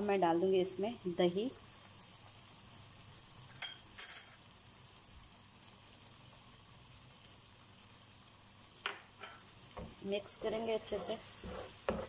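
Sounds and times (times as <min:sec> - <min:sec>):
masala sizzling in oil: 0:00.0 - 0:12.0.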